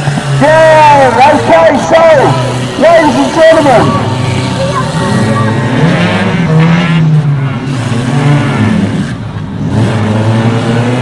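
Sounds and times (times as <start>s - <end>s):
racing car engines revving: 0.0s - 11.0s.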